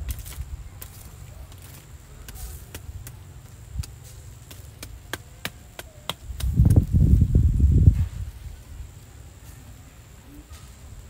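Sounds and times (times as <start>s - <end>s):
charcoal fire crackling: 0.0s - 11.0s.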